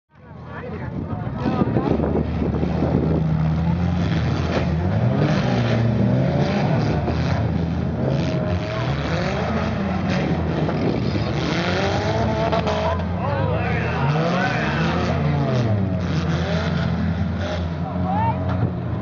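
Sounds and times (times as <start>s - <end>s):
car engines revving together: 1.4s - 13.2s, 13.8s - 17.8s.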